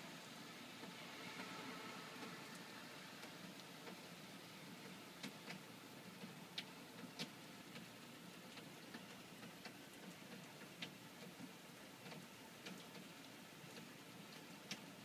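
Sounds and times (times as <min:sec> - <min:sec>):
heavy rain through window glass: 0:00.0 - 0:15.0
raindrops ticking on window pane: 0:02.1 - 0:15.0.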